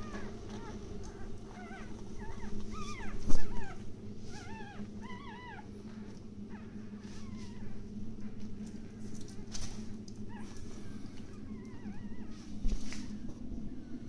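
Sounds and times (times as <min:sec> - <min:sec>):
puppies squeaking and whimpering: 0:00.0 - 0:08.4, 0:10.2 - 0:13.9
low hum: 0:00.0 - 0:14.0.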